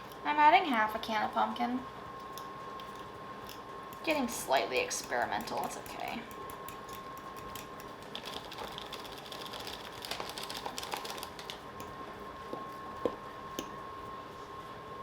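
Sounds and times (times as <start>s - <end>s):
utensil stirring dough in bowl: 2.2s - 14.6s.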